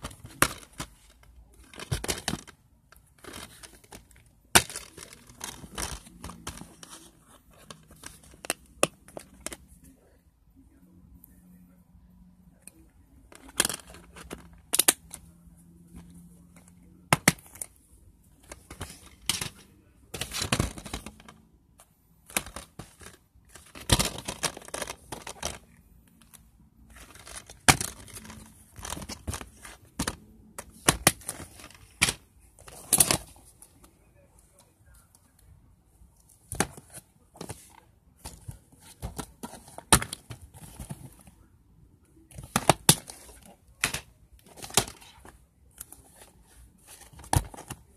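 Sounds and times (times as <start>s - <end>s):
plastic cases clicking and rattling: 0.0s - 9.9s, 12.6s - 35.6s, 36.2s - 41.4s, 42.1s - 47.9s.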